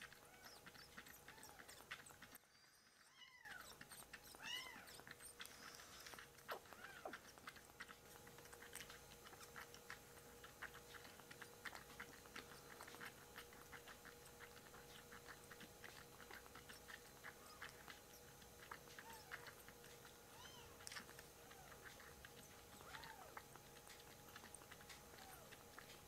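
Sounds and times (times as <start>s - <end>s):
kitten suckling wet clicks: 0.0s - 26.0s.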